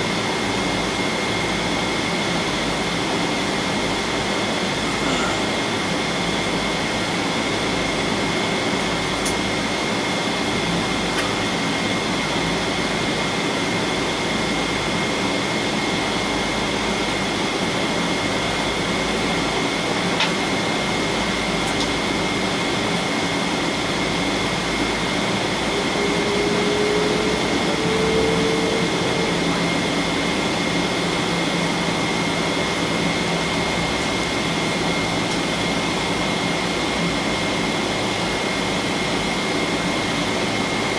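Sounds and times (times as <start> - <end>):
airplane cabin noise: 0.0 - 40.9.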